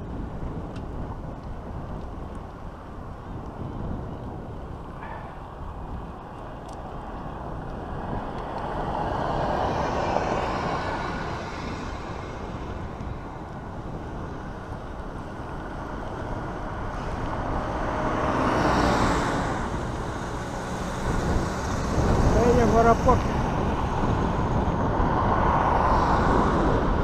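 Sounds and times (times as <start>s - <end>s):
passing motor traffic: 0.0s - 27.0s
road noise: 0.0s - 27.0s
wind rushing over microphone: 0.0s - 27.0s.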